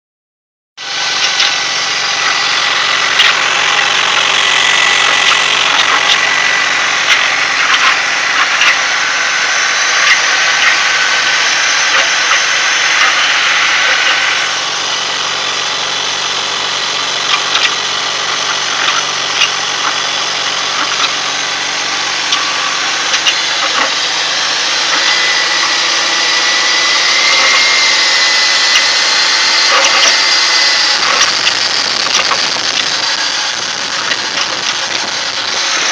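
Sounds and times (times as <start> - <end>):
car engine running: 0.8 - 35.9
thin high whine: 0.8 - 35.9.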